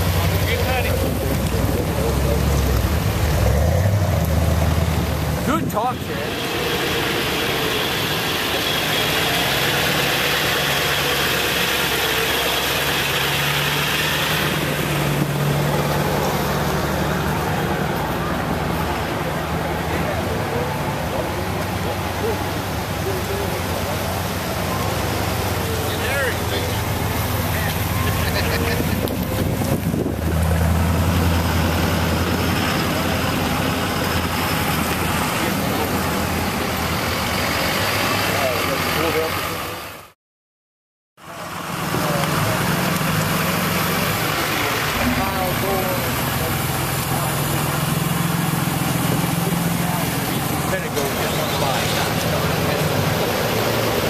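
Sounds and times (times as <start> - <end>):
pickup truck engines idling: 0.0 - 40.1, 41.2 - 54.0.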